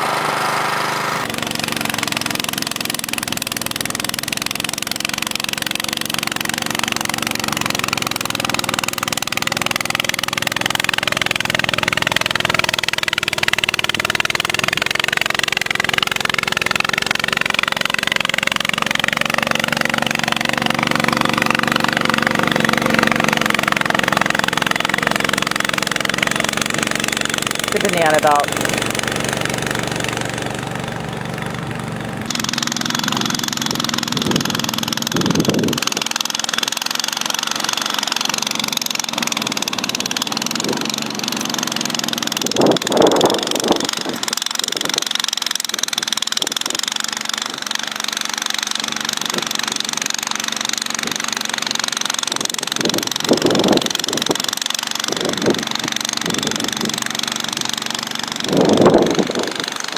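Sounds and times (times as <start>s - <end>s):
snowblower engine running: 0.0s - 59.9s.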